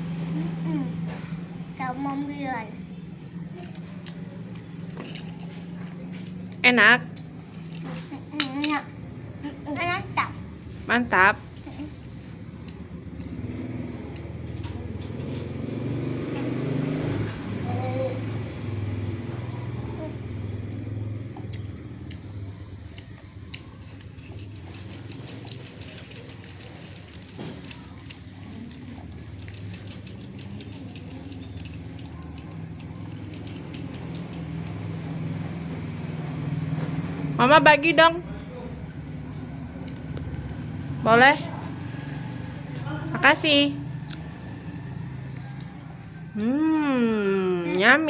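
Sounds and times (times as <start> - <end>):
vehicle engine humming: 0.0 - 48.0.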